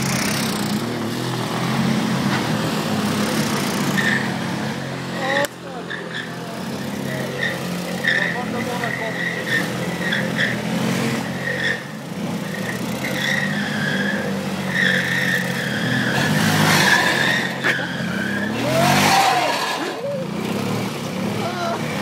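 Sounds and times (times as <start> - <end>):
motor scooter engines running: 0.0 - 22.0
scooter engine revving: 0.0 - 22.0
tyres squealing on pavement: 0.0 - 22.0.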